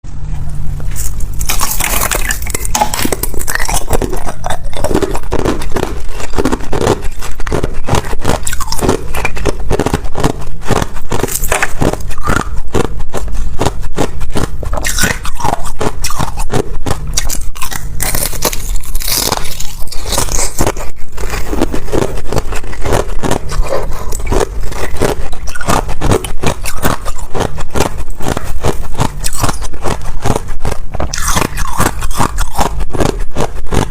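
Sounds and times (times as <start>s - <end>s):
ice crunching being chewed: 0.8s - 33.9s.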